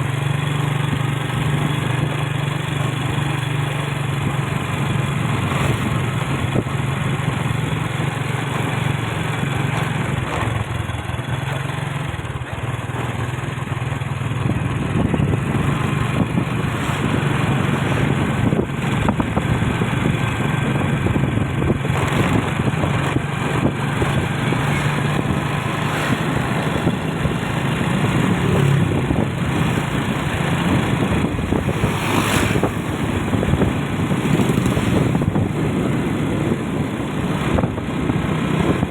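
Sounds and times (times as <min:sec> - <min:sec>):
vehicle engine hum: 0:00.0 - 0:38.9
wind and road noise: 0:00.0 - 0:38.9.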